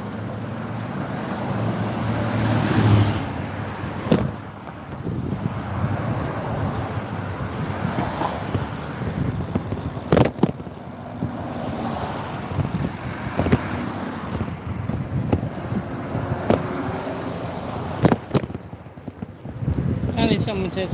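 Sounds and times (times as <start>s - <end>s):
motorbike engine running: 0.0s - 20.2s
wind rumble on microphone: 1.6s - 20.9s.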